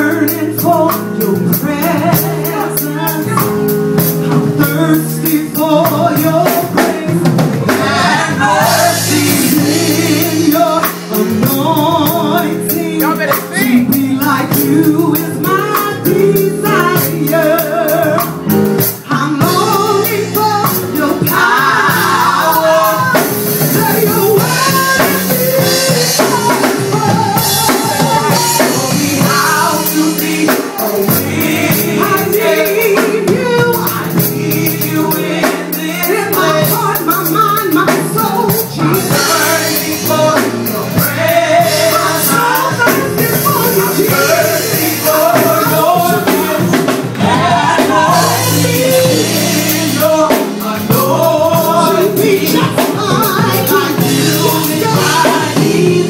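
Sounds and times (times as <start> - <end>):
drum kit and band: 0.0 - 56.0
woman singing lead: 0.0 - 56.0
backing singers: 4.5 - 56.0.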